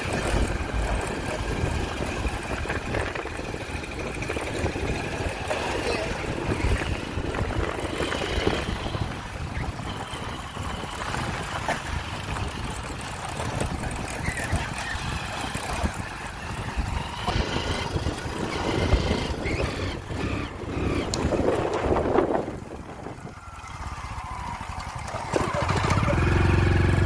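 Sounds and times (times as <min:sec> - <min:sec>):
motorcycle engine rumbling: 0:00.0 - 0:27.0
road noise: 0:00.0 - 0:27.0.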